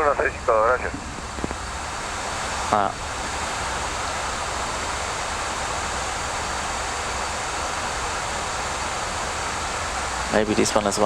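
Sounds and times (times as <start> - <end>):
cockpit airflow and ventilation rush: 0.0 - 11.0.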